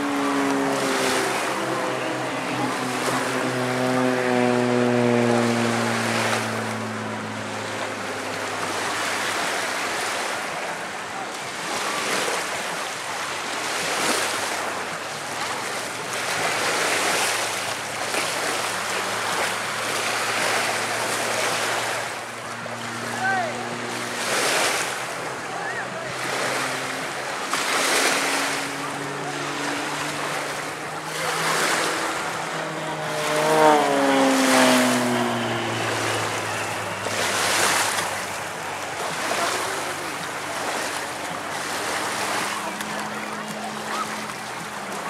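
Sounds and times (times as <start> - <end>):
propeller plane engine droning: 0.0 - 45.0
surf: 0.0 - 45.0
wind: 0.0 - 45.0.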